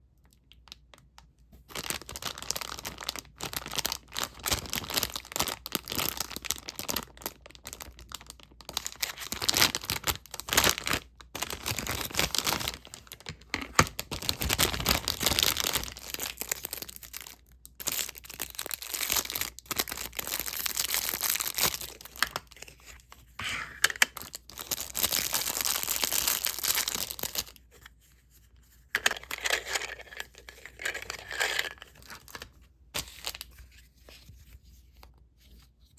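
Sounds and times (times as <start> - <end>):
crinkling and rustling materials: 0.2 - 35.9.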